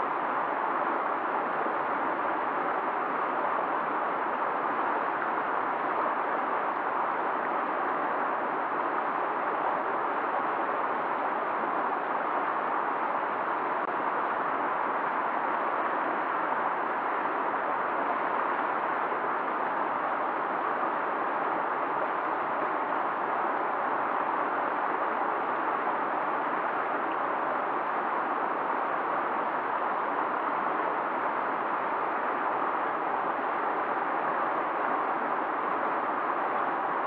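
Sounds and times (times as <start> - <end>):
river rushing: 0.0 - 37.0.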